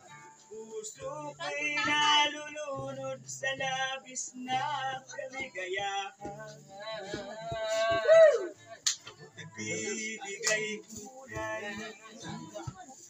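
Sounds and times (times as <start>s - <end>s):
acoustic guitar: 0.0s - 13.0s
man singing: 0.5s - 8.5s, 9.4s - 12.9s.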